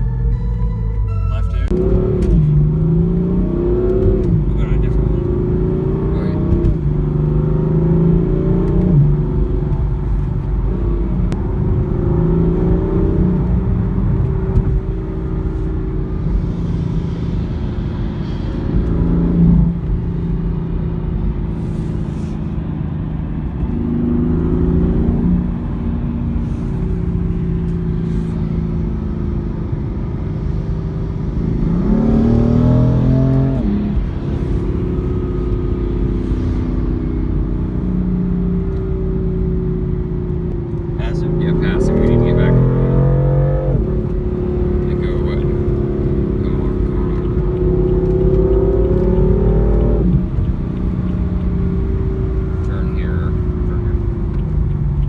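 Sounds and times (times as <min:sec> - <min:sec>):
car engine accelerating through gears: 0:00.0 - 0:55.0
road rumble: 0:00.0 - 0:55.0.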